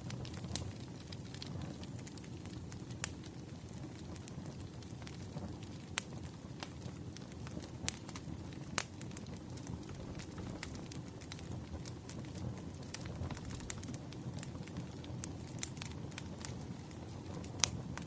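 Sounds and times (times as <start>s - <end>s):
campfire crackling: 0.0s - 18.0s
sharp pops of fire: 0.0s - 18.0s.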